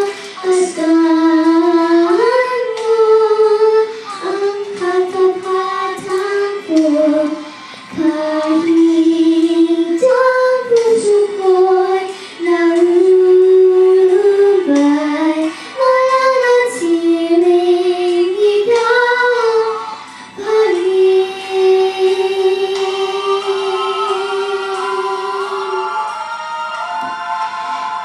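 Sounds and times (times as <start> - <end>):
girl singing: 0.0 - 26.2.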